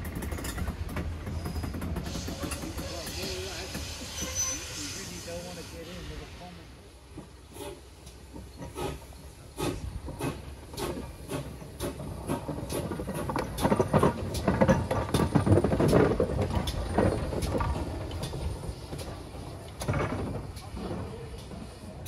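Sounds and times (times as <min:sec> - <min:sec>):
train clattering: 0:00.0 - 0:22.0.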